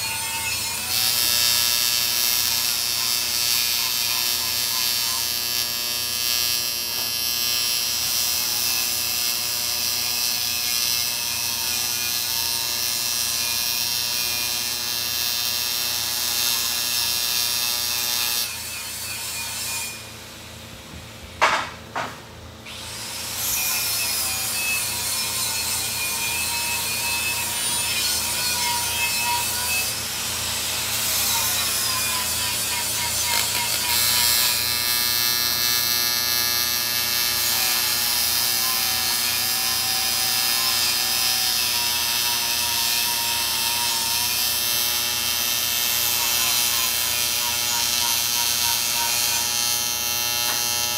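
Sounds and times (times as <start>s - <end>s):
small motor buzzing hum: 0.0s - 20.2s, 22.0s - 50.9s.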